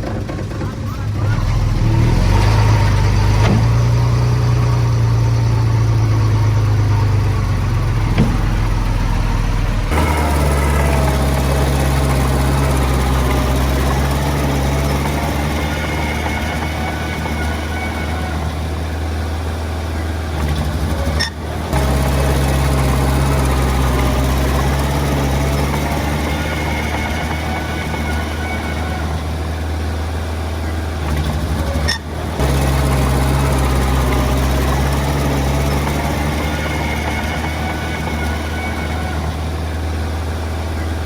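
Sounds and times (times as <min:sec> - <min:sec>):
bulldozer diesel engine running: 0:00.0 - 0:41.0.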